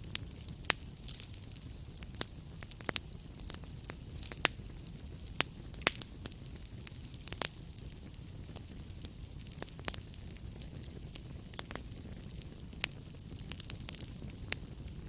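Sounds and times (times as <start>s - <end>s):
fire crackles and pops: 0.0s - 15.0s
wood fire rumbling and hissing: 0.0s - 15.0s.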